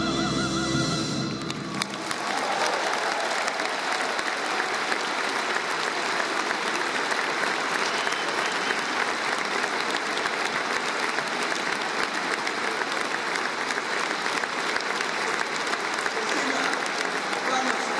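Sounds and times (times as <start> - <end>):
large audience applauding: 1.3 - 17.9.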